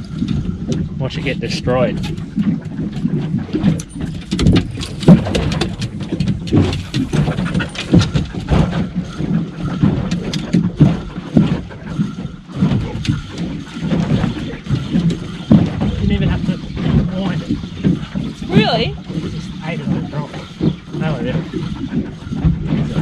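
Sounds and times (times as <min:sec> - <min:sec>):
low rumble: 0:00.0 - 0:23.0
sharp knocks and splashes: 0:00.0 - 0:23.0
water slapping against boat hull: 0:00.0 - 0:23.0.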